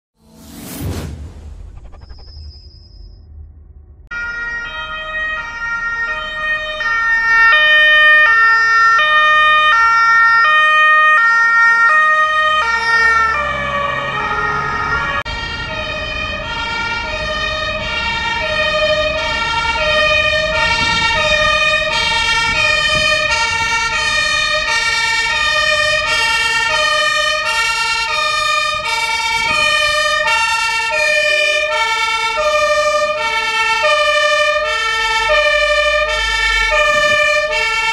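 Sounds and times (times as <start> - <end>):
engine and road noise: 0.1 - 37.9
two-tone sirens: 3.3 - 37.9.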